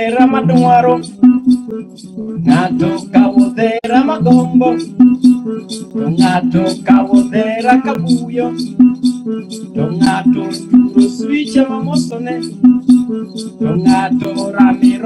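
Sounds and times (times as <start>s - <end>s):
person singing: 0.0s - 15.0s
plucked string instrument riff: 0.0s - 15.0s
rattle shaken: 0.0s - 15.0s.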